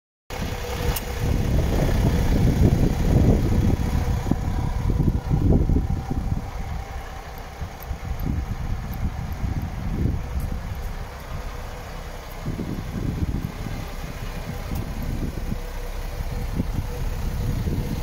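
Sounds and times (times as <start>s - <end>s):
diesel truck engine idling: 0.3s - 18.0s
wind buffeting microphone: 0.3s - 18.0s.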